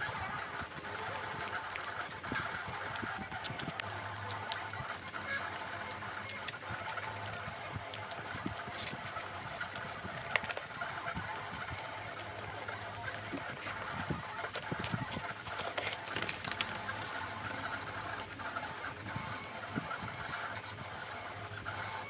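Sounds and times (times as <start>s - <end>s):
squeegee scraping on film: 0.3s - 22.0s
plastic film rustling: 0.5s - 21.9s.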